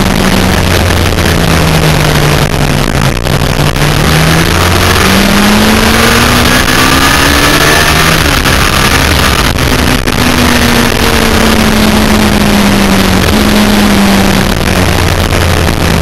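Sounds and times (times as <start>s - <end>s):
motorcycle engine at speed: 0.0s - 16.0s
wind rush on microphone: 0.0s - 16.0s.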